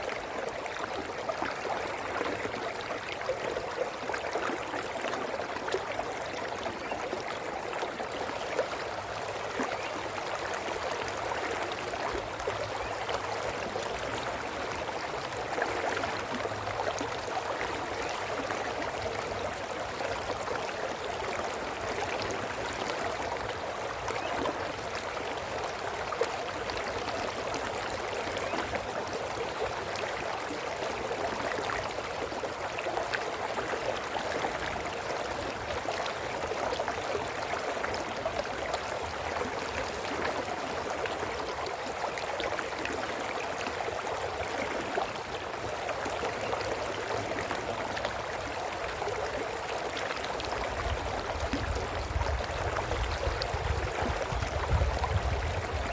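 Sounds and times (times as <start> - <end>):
brook babbling over stones: 0.0 - 55.9.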